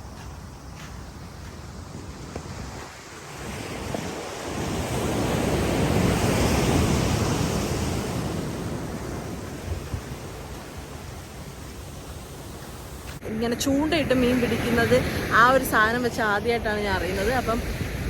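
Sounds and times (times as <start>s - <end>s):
sea waves breaking on beach: 0.0s - 18.0s
wind buffeting microphone: 0.0s - 18.0s.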